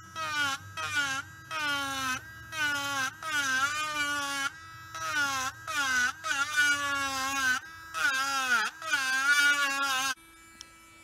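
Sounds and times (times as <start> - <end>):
rotary tool whine carving wood: 0.0 - 11.0.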